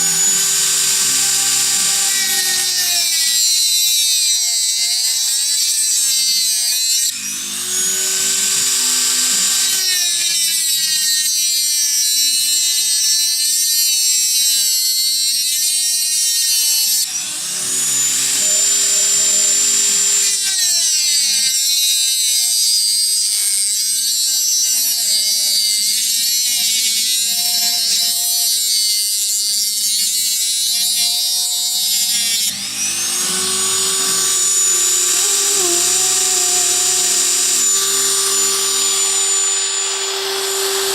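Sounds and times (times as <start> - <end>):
power tool whining: 0.0 - 12.1, 16.8 - 40.9.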